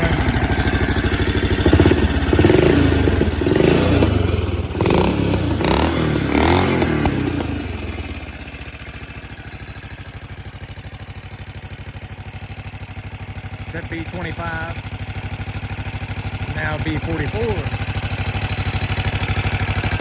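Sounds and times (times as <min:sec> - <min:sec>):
motorcycle engine revving and idling: 0:00.0 - 0:20.0.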